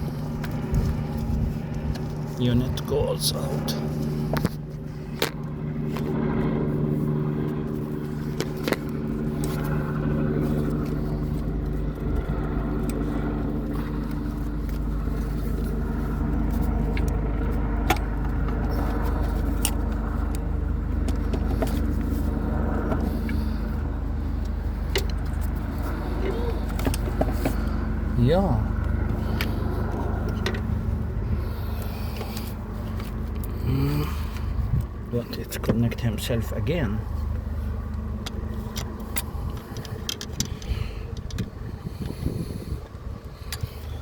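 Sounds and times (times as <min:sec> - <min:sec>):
low machine hum: 0:00.0 - 0:44.0.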